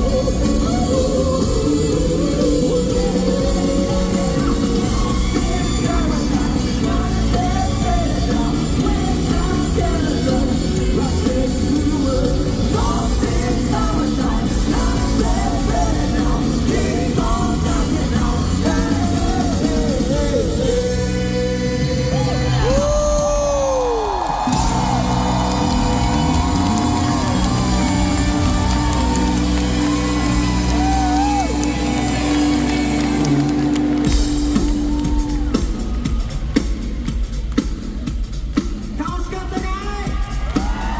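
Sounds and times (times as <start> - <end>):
funk band playing: 0.0 - 23.5, 24.4 - 40.9.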